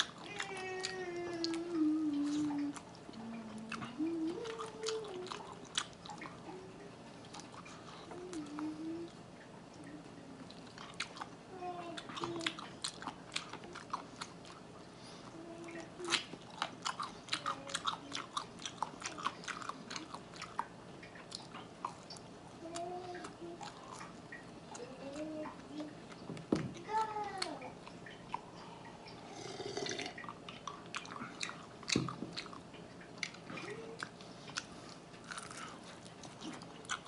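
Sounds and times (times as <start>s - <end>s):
person chewing: 0.0s - 6.6s, 7.2s - 8.7s, 10.5s - 26.2s, 27.0s - 37.0s
closed-mouth hums: 0.0s - 37.0s.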